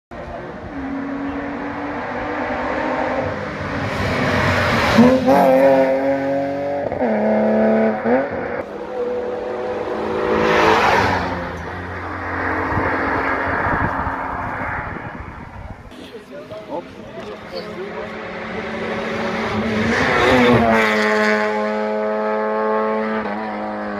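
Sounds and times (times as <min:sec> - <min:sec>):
rally car engine at full throttle: 0:00.1 - 0:23.9.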